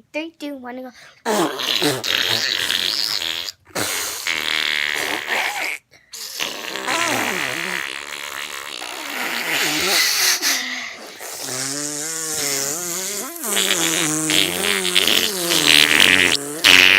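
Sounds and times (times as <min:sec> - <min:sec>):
person making fart noises: 0:01.2 - 0:16.9.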